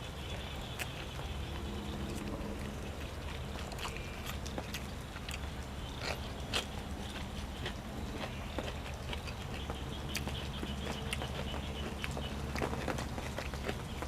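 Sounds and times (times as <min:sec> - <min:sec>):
chewing with crisp crunches: 0:00.0 - 0:14.0
steady low hum: 0:00.0 - 0:14.0.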